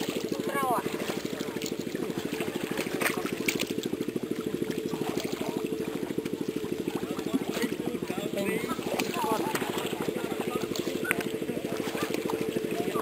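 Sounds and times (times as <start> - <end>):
small engine running: 0.0 - 13.0
water splashing: 0.0 - 13.0.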